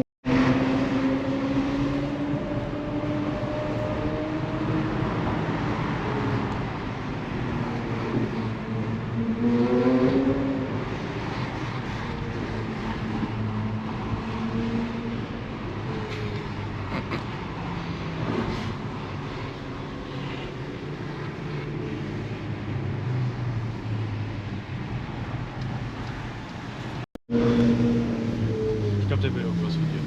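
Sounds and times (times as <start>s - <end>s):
car engine running and revving: 0.2s - 30.0s.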